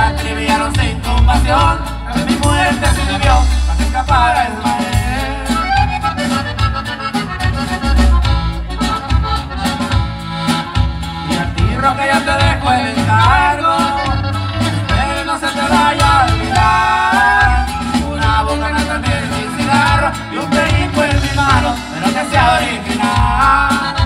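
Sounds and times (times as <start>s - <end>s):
button accordion melody: 0.0s - 24.0s
drums: 0.0s - 24.0s
guitar: 0.0s - 24.0s
low bass notes: 0.0s - 24.0s.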